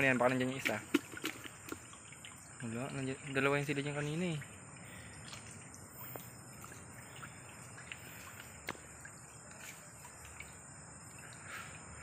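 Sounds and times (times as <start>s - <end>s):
crickets calling: 0.0s - 12.0s
low background hiss: 0.0s - 12.0s.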